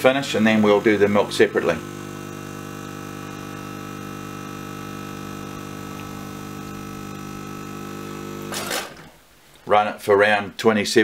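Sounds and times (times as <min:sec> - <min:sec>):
espresso machine pump humming: 0:00.1 - 0:08.9.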